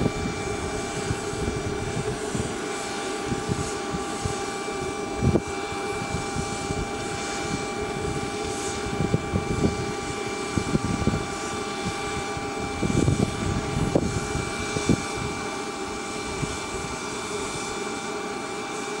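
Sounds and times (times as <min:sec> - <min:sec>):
jet turbine whine: 0:00.0 - 0:19.0.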